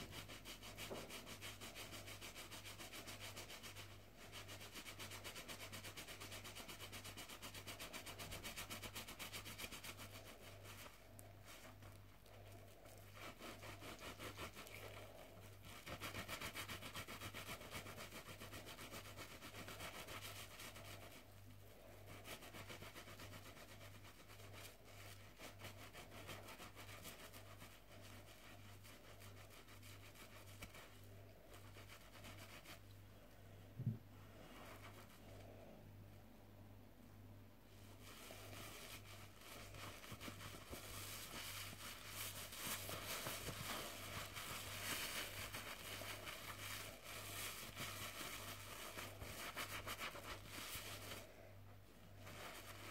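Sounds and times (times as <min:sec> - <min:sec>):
sponge scrubbing in foam: 0:00.0 - 0:32.8, 0:37.7 - 0:51.3, 0:52.2 - 0:52.9.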